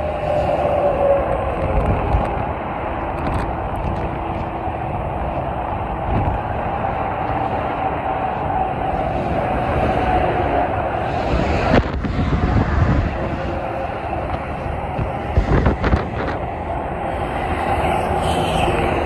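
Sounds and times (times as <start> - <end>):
highway traffic: 0.0 - 19.0.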